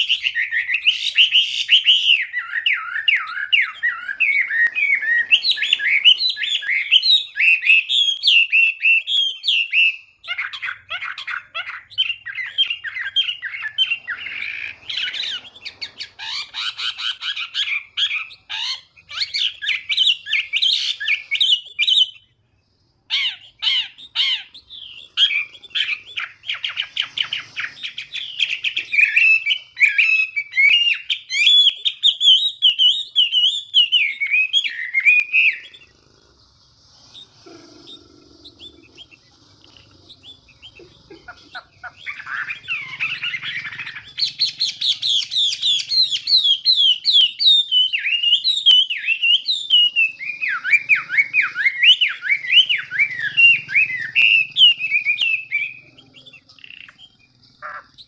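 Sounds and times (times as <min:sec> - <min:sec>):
bird singing warbled whistled song: 0:00.0 - 0:36.1, 0:36.9 - 0:58.0.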